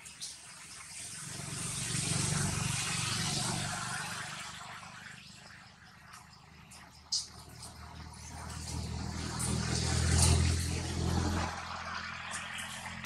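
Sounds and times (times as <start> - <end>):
vehicle passing by: 1.0 - 13.0.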